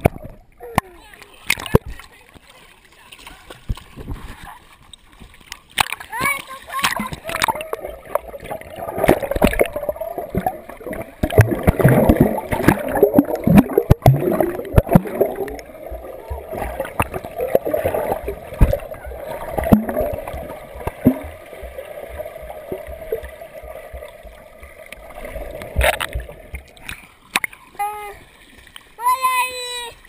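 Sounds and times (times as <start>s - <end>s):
sharp knocks and splashes: 0.0s - 2.1s, 3.2s - 27.6s
underwater gurgling and sloshing: 0.0s - 30.0s.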